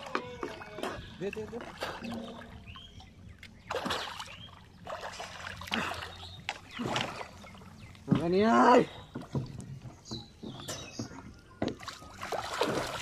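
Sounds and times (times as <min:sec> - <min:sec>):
water splashing from swimming: 0:00.0 - 0:02.8, 0:03.4 - 0:09.6, 0:10.8 - 0:13.0.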